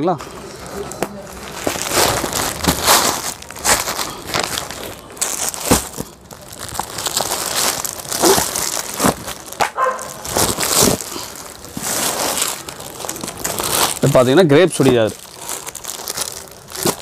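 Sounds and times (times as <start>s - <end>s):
plastic packaging crinkling: 0.2s - 17.0s.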